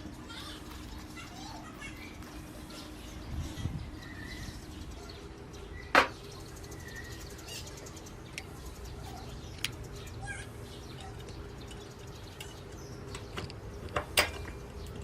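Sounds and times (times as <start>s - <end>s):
faint bird chirps: 0.3s - 13.4s.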